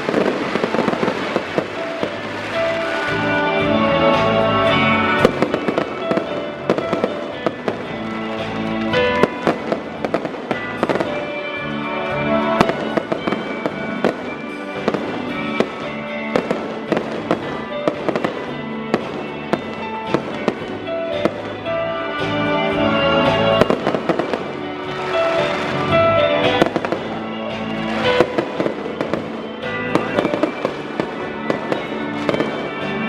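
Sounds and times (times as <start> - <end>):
fireworks bangs and crackles: 0.0 - 33.0
loud music with sustained notes: 0.0 - 33.0.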